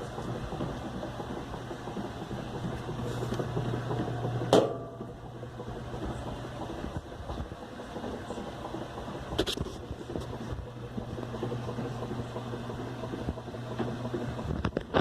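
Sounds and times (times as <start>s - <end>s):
washing machine motor and rattle: 0.0s - 15.0s.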